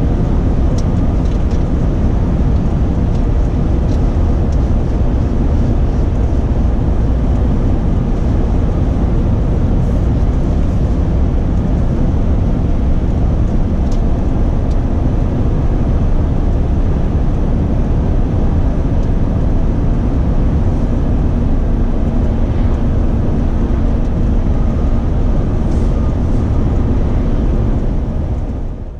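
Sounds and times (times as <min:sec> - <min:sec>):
road noise: 0:00.0 - 0:28.9
truck engine drone: 0:00.0 - 0:28.9.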